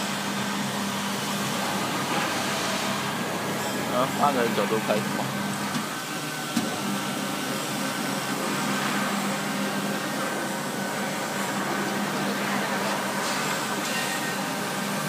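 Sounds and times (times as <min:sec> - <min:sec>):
dough mixer motor humming: 0:00.0 - 0:13.8.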